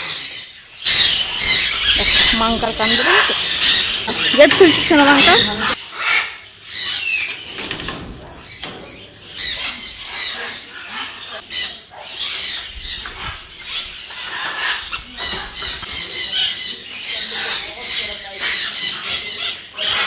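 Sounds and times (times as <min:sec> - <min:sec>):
parrots screeching: 0:00.0 - 0:07.4, 0:09.2 - 0:20.0.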